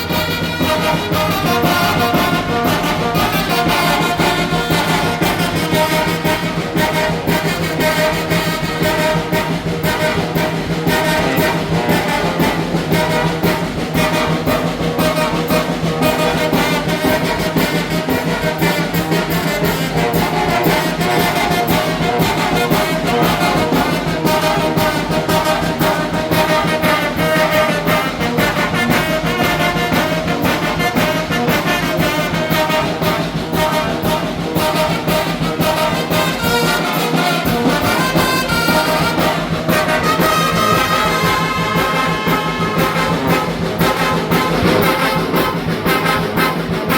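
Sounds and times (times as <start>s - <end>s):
brass band playing: 0.0s - 46.9s
percussion steady beat: 0.0s - 46.9s
trumpets and trombones: 0.0s - 46.9s.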